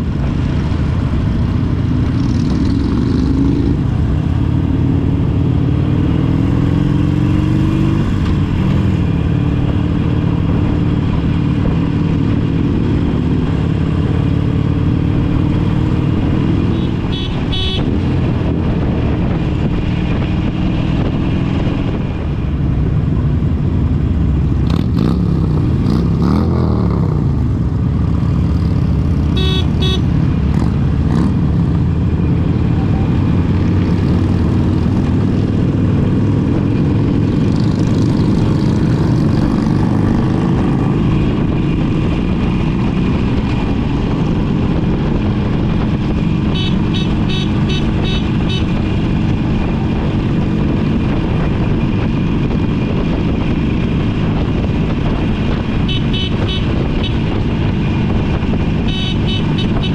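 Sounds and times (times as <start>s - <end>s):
motorcycles revving past: 0.0s - 22.4s, 24.2s - 59.9s.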